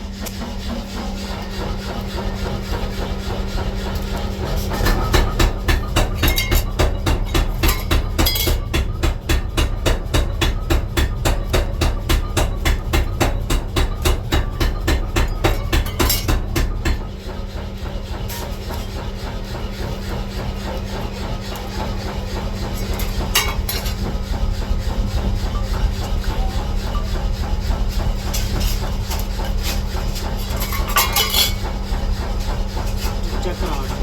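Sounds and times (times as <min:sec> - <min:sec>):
machine drone with hum: 0:00.0 - 0:34.0
power hammer pounding steel: 0:00.0 - 0:34.0.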